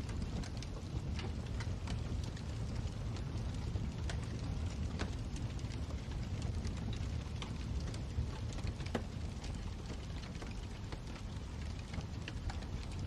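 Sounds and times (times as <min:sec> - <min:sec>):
fire crackling and popping: 0:00.0 - 0:13.0
wood fire rumbling: 0:00.0 - 0:13.0.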